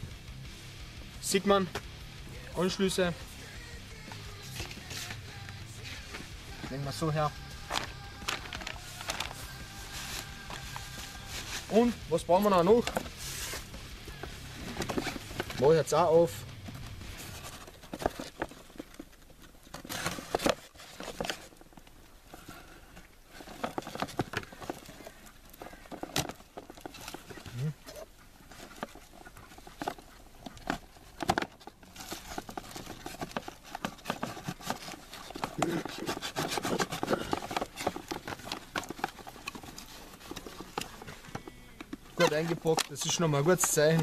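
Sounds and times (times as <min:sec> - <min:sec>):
paper rustling and crinkling: 0:04.2 - 0:44.0
cardboard box handled: 0:04.3 - 0:44.0.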